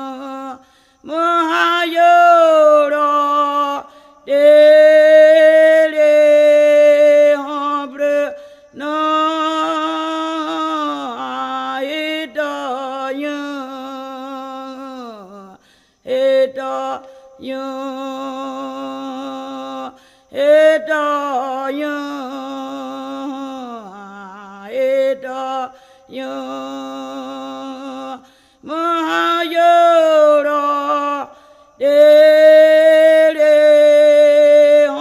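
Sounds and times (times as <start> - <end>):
unaccompanied ritual chant: 0.0 - 35.0.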